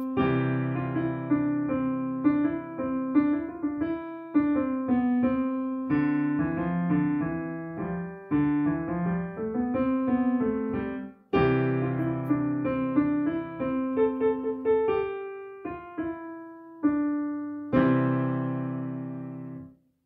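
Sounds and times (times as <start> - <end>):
piano playing: 0.0 - 19.8.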